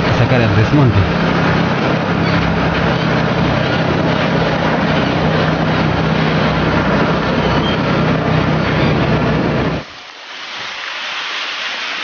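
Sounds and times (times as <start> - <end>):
dumper engine running: 0.0 - 9.9.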